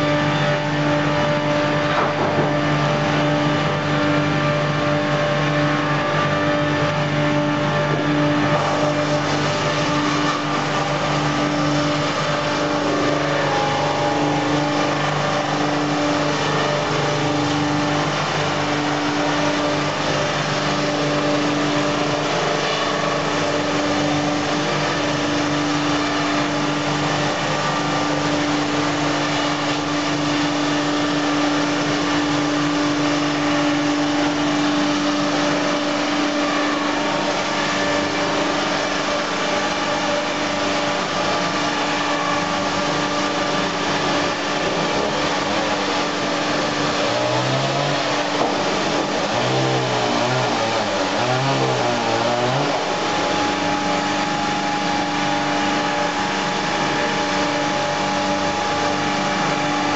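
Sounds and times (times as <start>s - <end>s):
loud machine drone: 0.0s - 59.9s.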